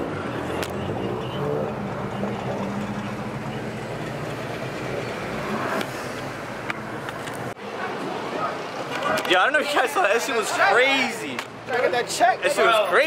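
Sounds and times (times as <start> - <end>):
road noise: 0.0 - 13.0
traffic noise: 0.0 - 13.0.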